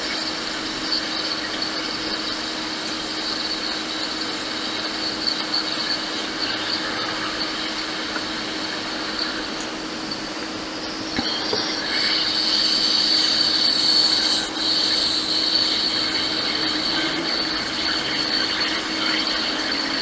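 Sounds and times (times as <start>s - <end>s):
hot air blower hiss and whine: 0.0s - 20.0s.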